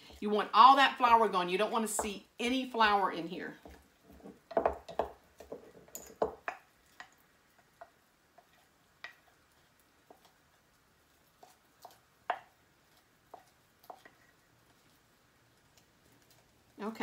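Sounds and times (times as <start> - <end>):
wooden spoon stirring thick paste: 0.0 - 2.2, 2.8 - 17.0.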